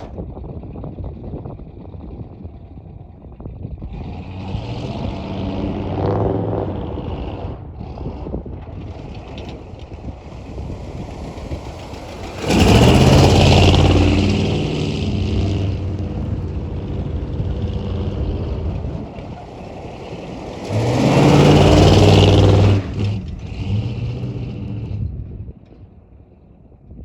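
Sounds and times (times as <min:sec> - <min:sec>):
pickup truck engine running: 0:00.0 - 0:25.4
road and wind noise: 0:00.0 - 0:27.0.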